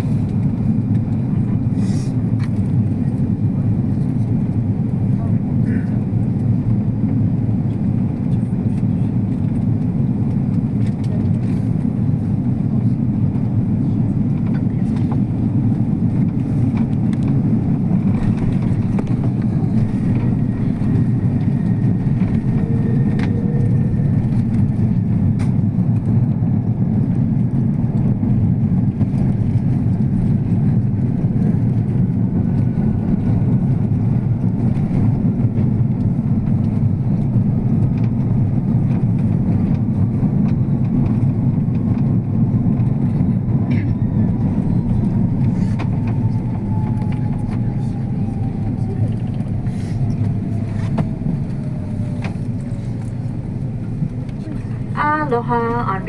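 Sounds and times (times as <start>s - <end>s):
airliner engine rumble: 0.0s - 56.0s.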